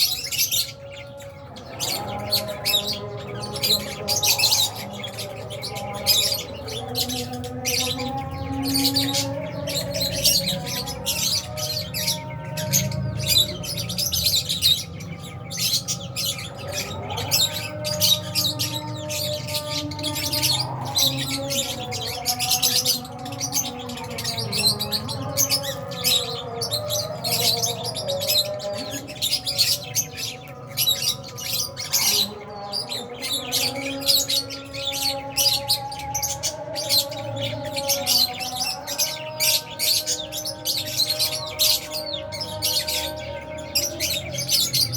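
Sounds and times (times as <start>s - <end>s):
lovebirds chirping: 0.0s - 44.9s.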